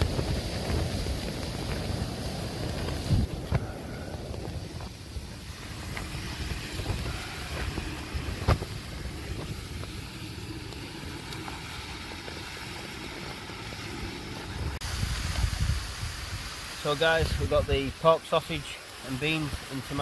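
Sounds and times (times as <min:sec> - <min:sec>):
wind buffeting microphone: 0:00.0 - 0:13.5, 0:14.3 - 0:17.9.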